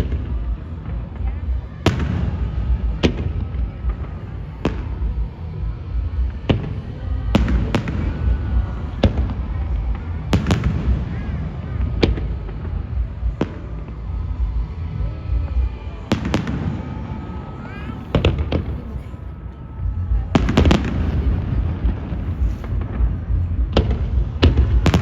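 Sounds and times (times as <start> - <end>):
fireworks sharp bangs: 0.0 - 14.4, 15.4 - 19.4, 20.3 - 25.0
low rumble of explosions: 0.0 - 25.0.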